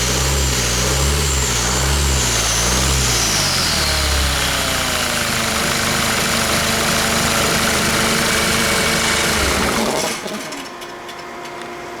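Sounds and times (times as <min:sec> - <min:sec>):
diesel engine idling: 0:00.0 - 0:10.5
engine running down to stop: 0:00.0 - 0:10.8.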